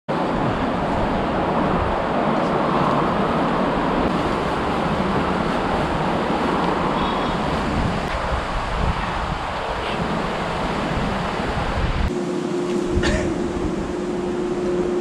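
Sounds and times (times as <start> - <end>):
rushing ambient noise: 0.1 - 15.0.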